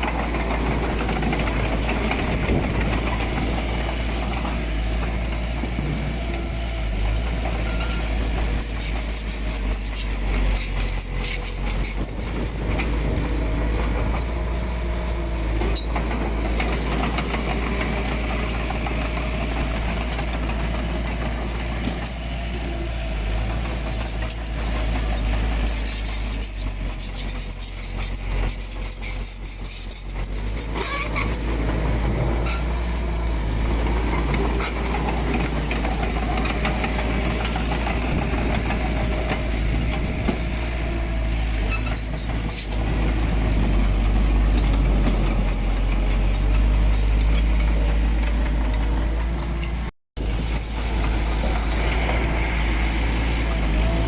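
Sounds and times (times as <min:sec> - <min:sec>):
diesel engine rumbling: 0:00.0 - 0:54.0.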